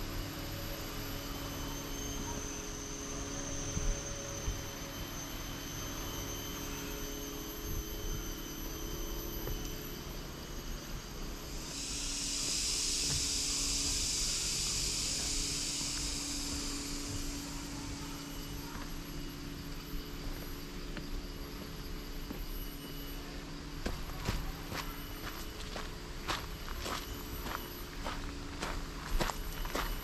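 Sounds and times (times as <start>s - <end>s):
cicada buzzing: 0.0s - 30.0s.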